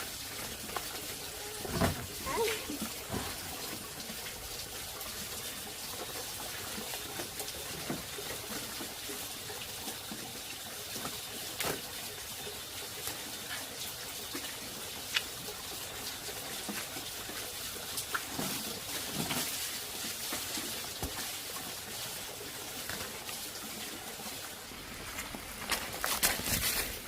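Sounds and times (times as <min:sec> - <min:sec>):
trickling water: 0:00.0 - 0:27.0.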